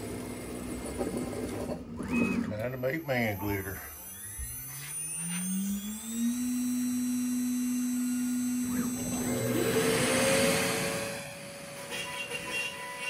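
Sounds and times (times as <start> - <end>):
router spindle whine: 0.0 - 13.0
router bit cutting board: 2.1 - 13.0.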